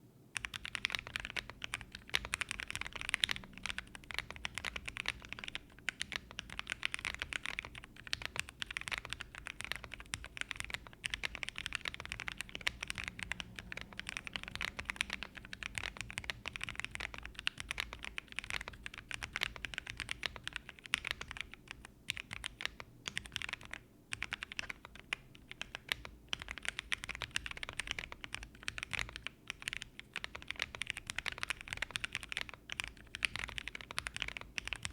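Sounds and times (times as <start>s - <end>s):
mechanical keyboard typing: 0.4s - 34.9s.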